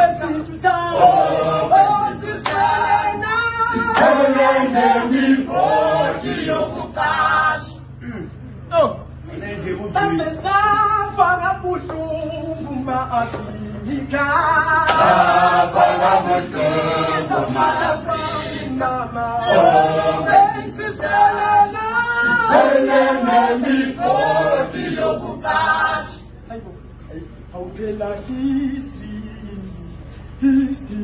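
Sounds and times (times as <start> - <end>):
male choir singing a cappella: 0.0 - 8.0, 9.3 - 26.4, 27.6 - 31.0.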